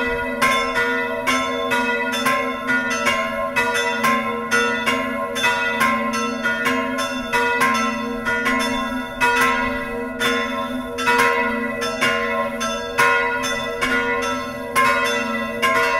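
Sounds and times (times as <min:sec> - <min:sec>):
church bells ringing: 0:00.0 - 0:15.9.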